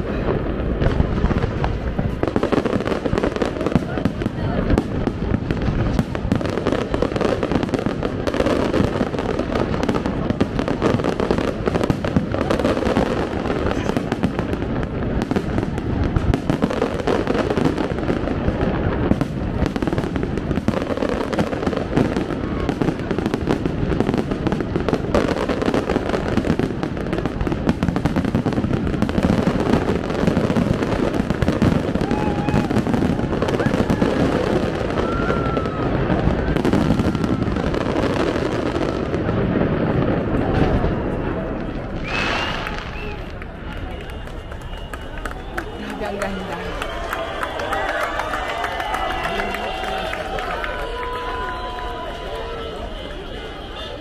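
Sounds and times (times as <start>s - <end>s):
fireworks popping and crackling: 0.0s - 54.0s.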